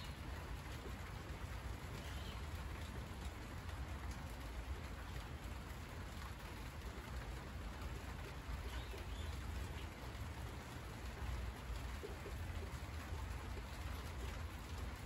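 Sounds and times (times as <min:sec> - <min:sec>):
rain pattering on leaves: 0:00.0 - 0:15.0.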